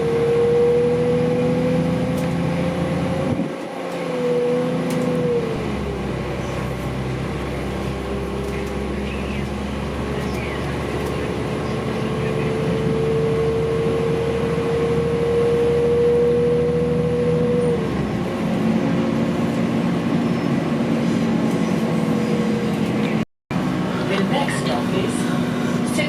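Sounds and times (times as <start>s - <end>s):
train wheels rumbling on rail: 4.8s - 26.0s.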